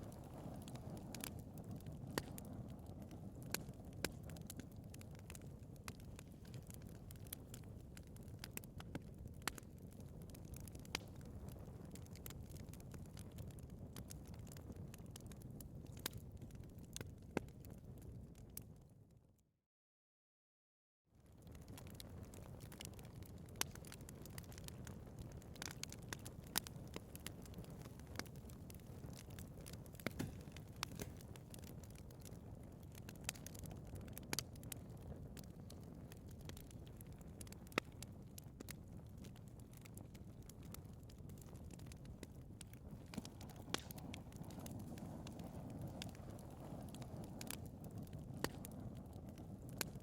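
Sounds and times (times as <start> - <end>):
flames rumbling: 0.0 - 18.8, 21.2 - 50.0
wood fire crackling and popping: 0.0 - 18.9, 21.2 - 50.0.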